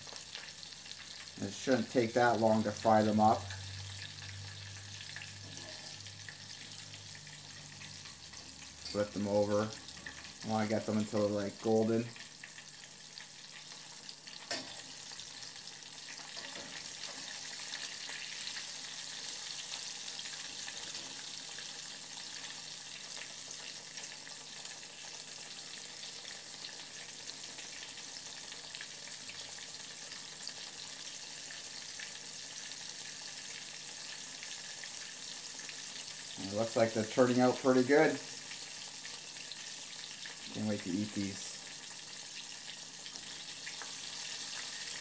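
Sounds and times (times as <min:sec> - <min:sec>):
batter frying in oil: 0:00.0 - 0:45.0.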